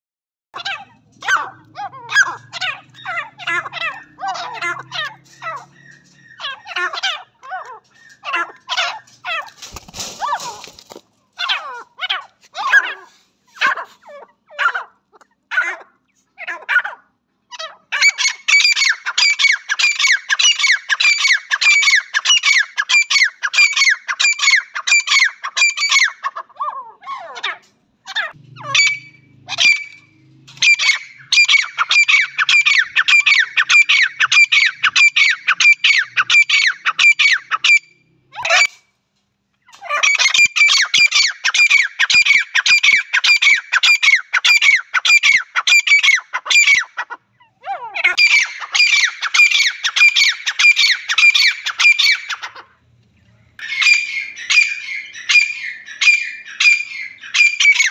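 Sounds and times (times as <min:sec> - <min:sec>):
francolins calling: 0:00.6 - 0:38.8, 0:39.6 - 0:52.8, 0:53.5 - 0:57.9.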